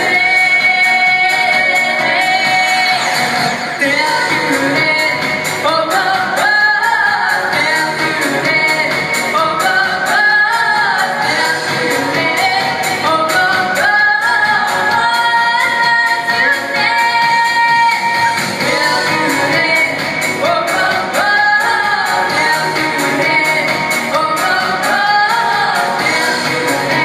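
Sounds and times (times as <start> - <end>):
girl singing pop song: 0.0 - 27.0.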